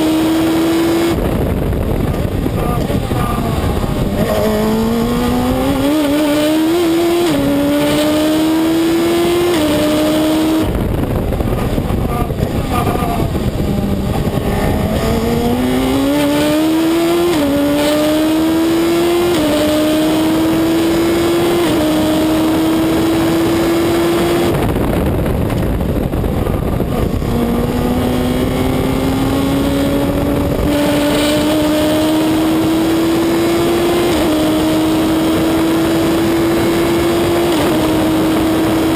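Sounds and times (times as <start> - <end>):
racing car engine upshifting: 0.0 - 38.9.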